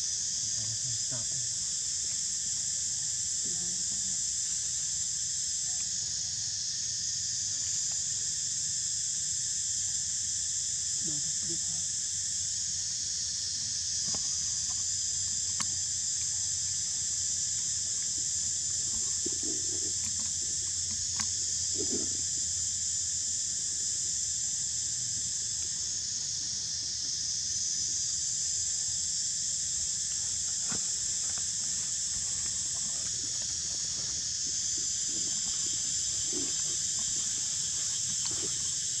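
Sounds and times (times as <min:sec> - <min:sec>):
high-pitched insect chorus: 0:00.0 - 0:39.0.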